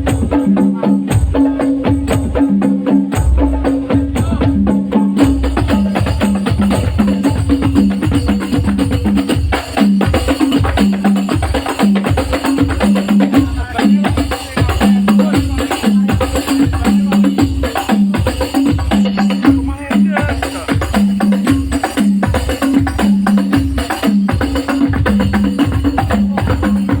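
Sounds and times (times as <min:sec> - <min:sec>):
tambourine jingles: 0:05.2 - 0:27.0.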